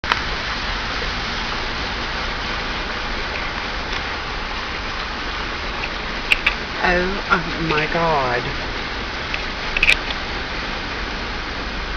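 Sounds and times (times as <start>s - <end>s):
vehicle driving through water: 0.0s - 11.9s.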